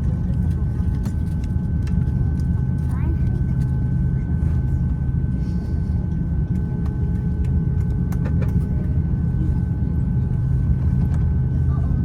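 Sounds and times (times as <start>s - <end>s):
airplane taxiing rumble: 0.0s - 12.0s.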